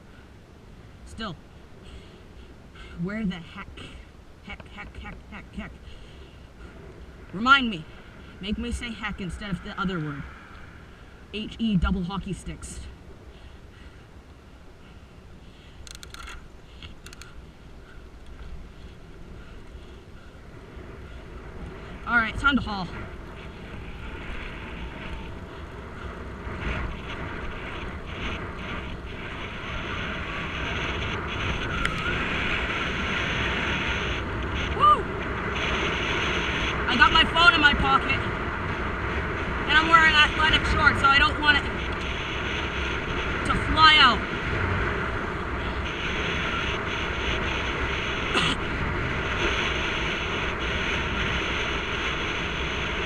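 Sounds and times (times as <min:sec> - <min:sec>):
wind rushing over microphone: 0:04.1 - 0:53.0.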